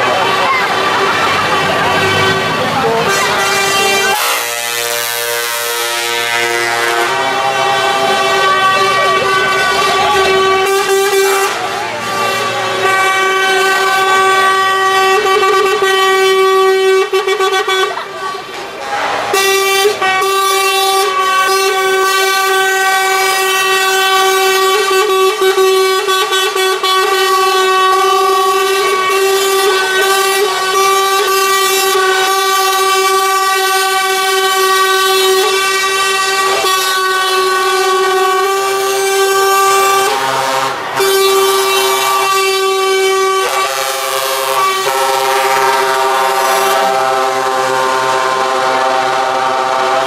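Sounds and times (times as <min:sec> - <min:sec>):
truck air horns blowing: 0:00.0 - 0:50.0.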